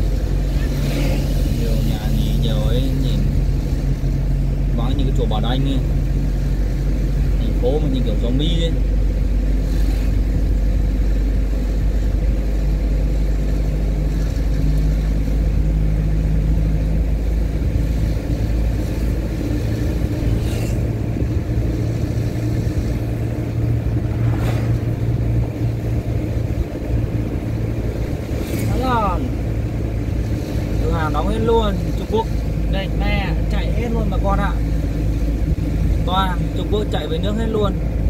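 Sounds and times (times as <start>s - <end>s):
road noise: 0.0s - 38.0s
vehicle engine running: 0.0s - 38.0s.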